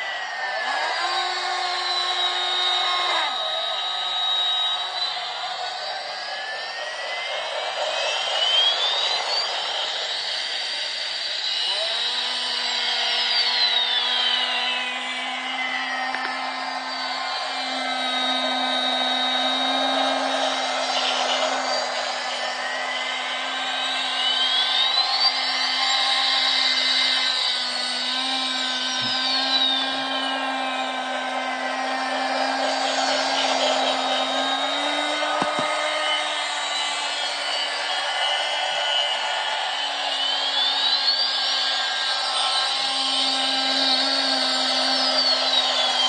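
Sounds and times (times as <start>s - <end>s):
high whine: 0.0s - 46.0s
toy electric motor whirring: 0.0s - 46.0s.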